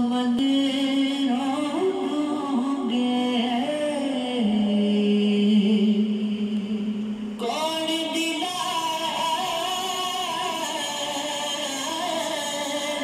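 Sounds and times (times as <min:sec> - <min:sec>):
person singing chant-like melody: 0:00.0 - 0:13.0.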